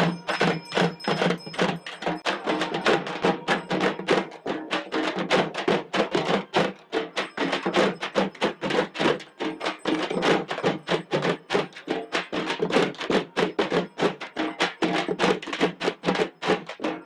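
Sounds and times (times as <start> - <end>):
frame drums beaten with sticks: 0.0 - 17.0.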